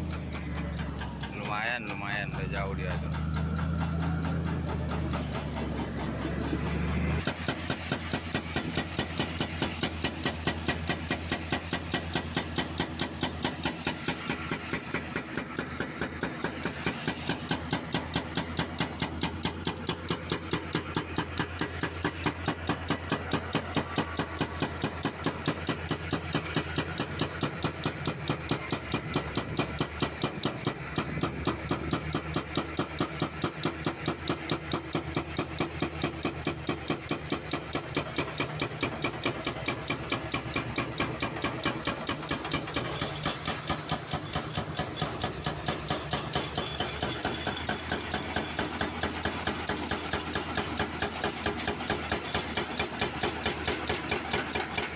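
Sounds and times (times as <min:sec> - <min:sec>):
diesel engine under load: 0:00.0 - 0:54.9
hydraulic breaker hammering concrete: 0:00.0 - 0:54.9.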